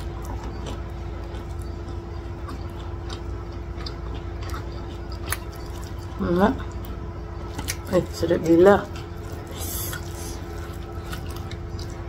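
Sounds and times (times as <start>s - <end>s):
chewing with wet mouth clicks: 0.0s - 8.2s, 8.8s - 12.0s
steady low hum: 0.0s - 12.0s.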